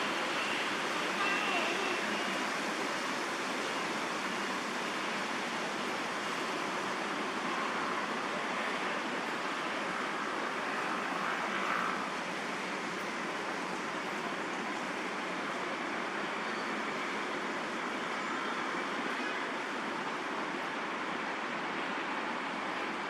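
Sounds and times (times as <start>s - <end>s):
distant traffic hiss: 0.0s - 23.0s.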